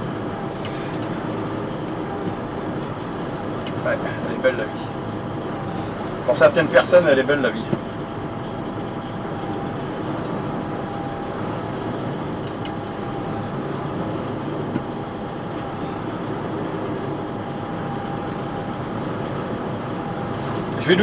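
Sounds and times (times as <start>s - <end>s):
diesel truck engine running: 0.0s - 21.0s
faint whine: 0.0s - 21.0s.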